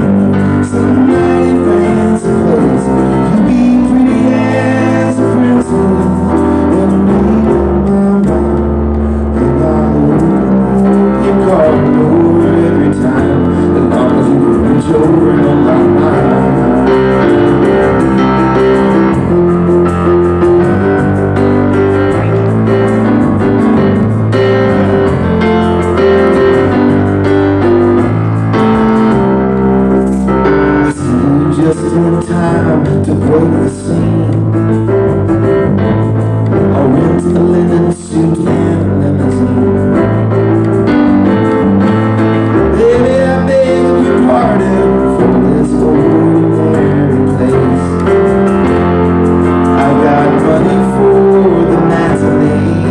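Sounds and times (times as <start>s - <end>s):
guitars: 0.0s - 52.9s
keyboard playing piano chords: 0.0s - 52.9s.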